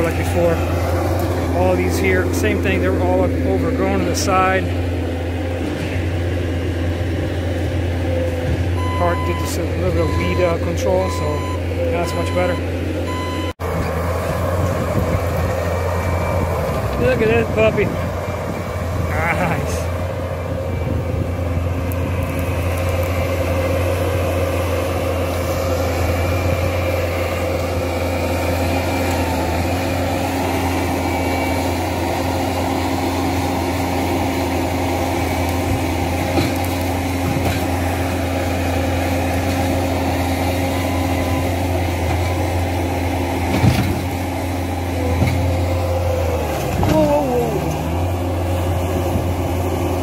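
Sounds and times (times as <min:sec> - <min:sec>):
diesel engine running steadily: 0:00.0 - 0:50.0.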